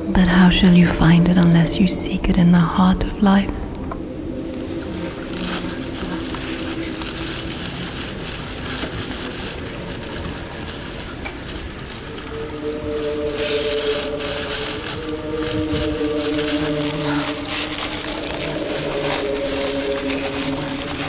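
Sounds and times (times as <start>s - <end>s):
dense hiss with crackles: 0.0s - 21.0s
sustained low chord: 0.0s - 21.0s.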